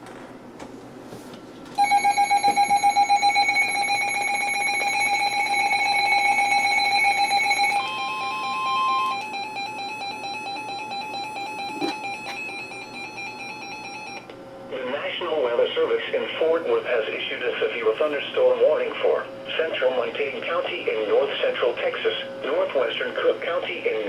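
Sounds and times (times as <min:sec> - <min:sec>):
harsh steady alert tone: 0:01.8 - 0:14.2, 0:14.8 - 0:24.0.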